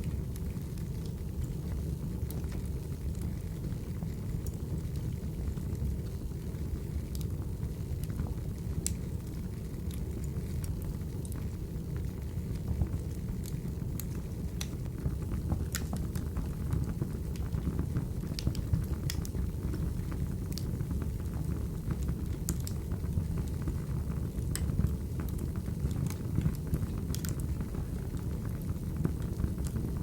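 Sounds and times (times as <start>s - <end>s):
burning logs crackling and popping: 0.0s - 30.0s
fire roaring: 0.0s - 30.0s.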